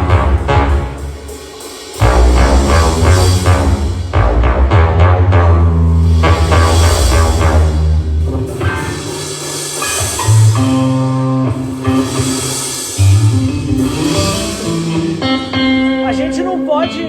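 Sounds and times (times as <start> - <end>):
held bass notes: 0.0 - 1.3, 2.0 - 17.0
instrumental band playing: 0.0 - 17.0.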